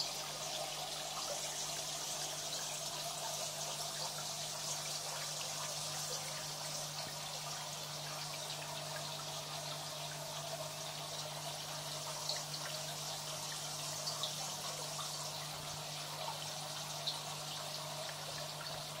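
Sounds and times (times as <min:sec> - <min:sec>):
aquarium water trickling: 0:00.0 - 0:19.0
small water drips: 0:00.0 - 0:19.0.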